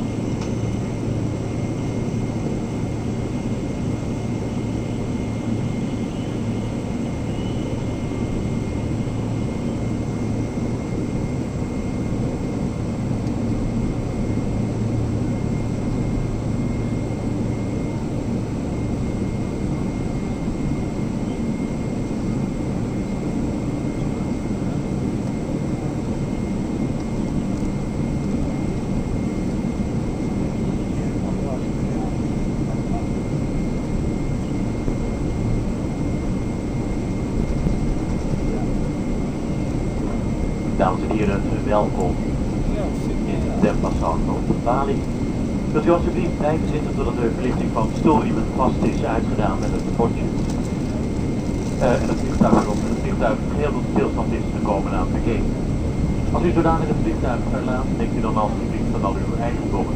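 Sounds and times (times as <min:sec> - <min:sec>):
airplane cabin rumble: 0:00.0 - 0:59.9
low hum: 0:00.0 - 0:59.9.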